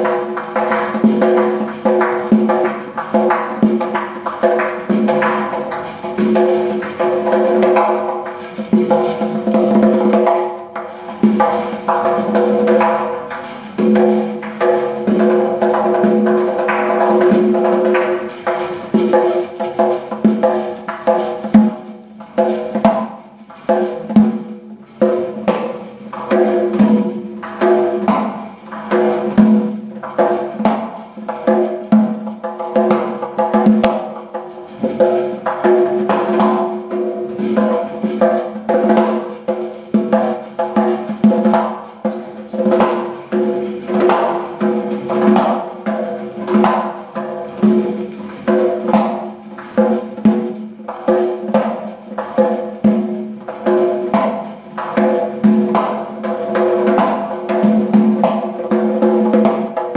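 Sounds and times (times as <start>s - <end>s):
frame drum played by hand: 0.0s - 59.9s.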